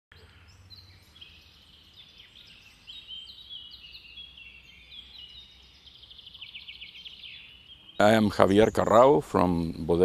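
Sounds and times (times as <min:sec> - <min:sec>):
birds chirping and singing: 0:00.1 - 0:10.0.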